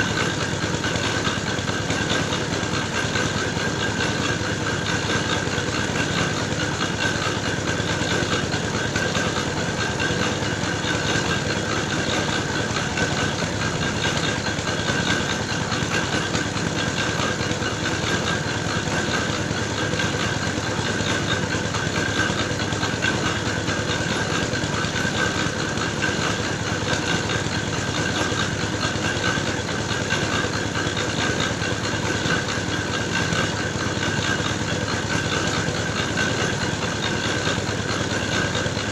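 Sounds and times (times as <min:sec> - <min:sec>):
grinding mill engine: 0:00.0 - 0:38.9.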